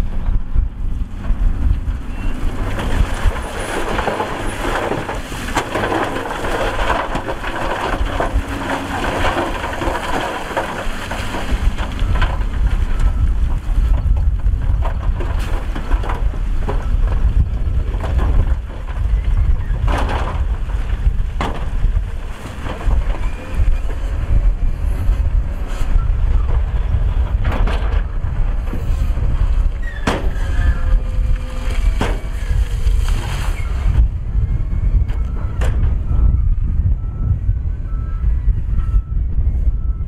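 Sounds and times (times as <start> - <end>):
diesel machinery rumbling: 0.0 - 40.0
wind buffeting microphone: 0.0 - 40.0
rock tumbling from truck: 1.2 - 34.1.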